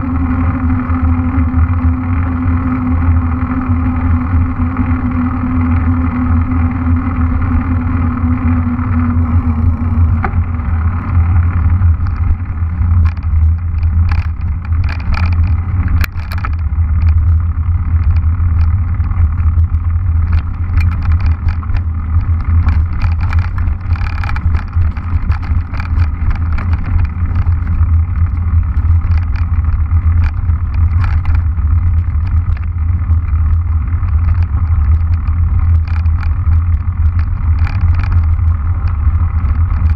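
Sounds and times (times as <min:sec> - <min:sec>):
wind rushing over microphone: 0:00.0 - 0:39.9
tyres rattling over gravel: 0:07.8 - 0:39.9.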